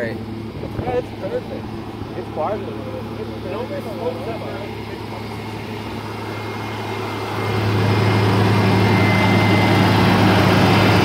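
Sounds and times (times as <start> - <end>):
car engine idling: 0.0 - 11.0
thin high whine: 0.0 - 11.0.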